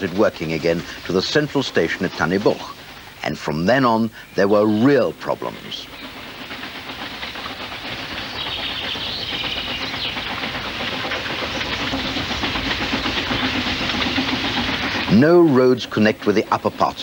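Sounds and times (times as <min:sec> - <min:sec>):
steam hiss: 0:00.0 - 0:04.4, 0:05.2 - 0:17.0
steam locomotive chuffing: 0:00.0 - 0:17.0.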